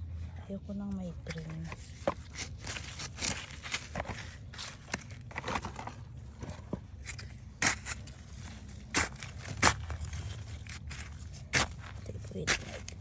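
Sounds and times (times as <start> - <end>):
hands digging through dry soil: 0.8 - 13.0.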